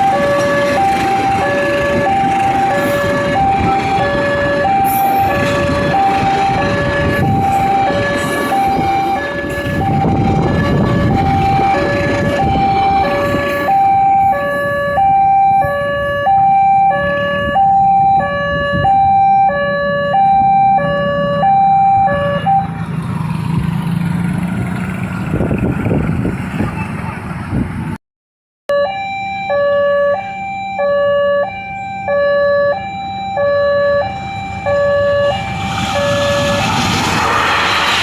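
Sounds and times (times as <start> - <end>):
passing train rumble: 0.0 - 18.8, 19.6 - 28.0, 32.8 - 38.0
level crossing alarm tones: 0.0 - 22.8, 28.7 - 38.0.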